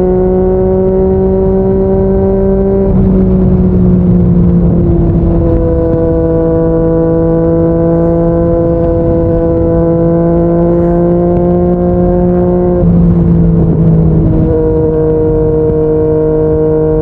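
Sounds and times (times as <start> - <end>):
motorcycle engine cruising: 0.0 - 17.0
wind noise: 0.0 - 17.0.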